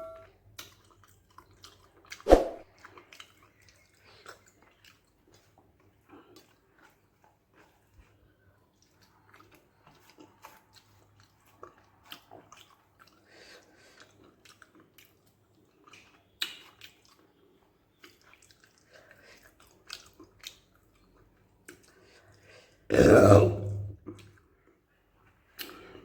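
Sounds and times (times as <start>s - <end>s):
person chewing food: 0.6s - 24.8s.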